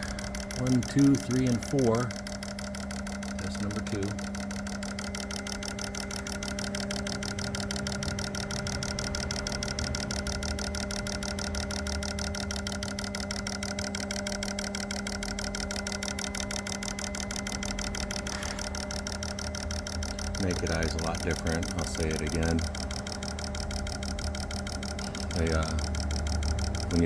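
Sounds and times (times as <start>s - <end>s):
fuel injectors clicking: 0.0s - 27.0s
tester humming: 0.0s - 27.0s.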